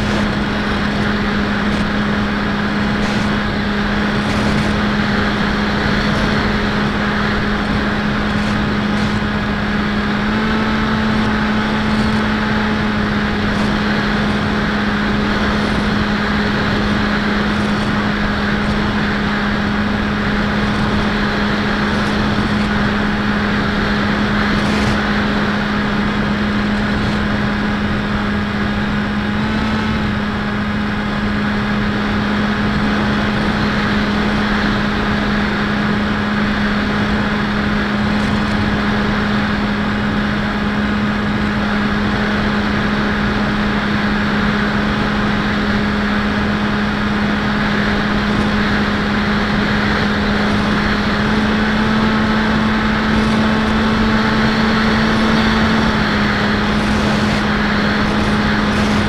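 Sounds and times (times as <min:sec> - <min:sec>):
electric motor propeller drone: 0:00.0 - 0:59.0.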